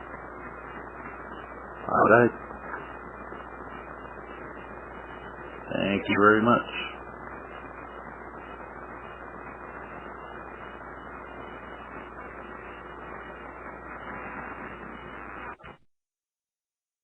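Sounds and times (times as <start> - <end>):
background hiss: 0.0 - 15.8
low mains hum: 0.0 - 15.8.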